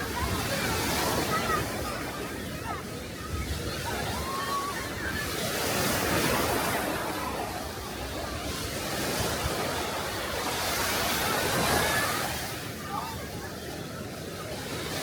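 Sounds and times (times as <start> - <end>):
sea waves washing ashore: 0.0 - 15.0.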